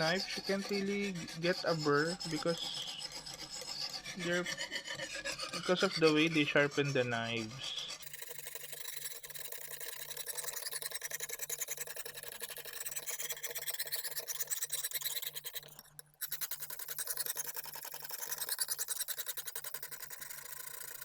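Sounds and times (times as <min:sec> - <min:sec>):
sharpening stone rasping on knife: 0:00.0 - 0:21.0.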